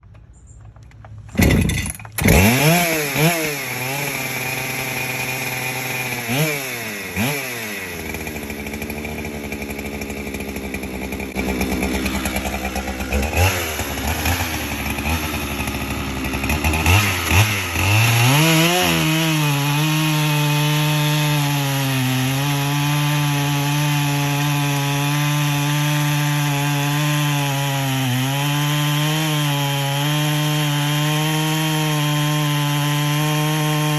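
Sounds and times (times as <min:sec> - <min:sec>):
chainsaw revving: 0:01.3 - 0:33.9.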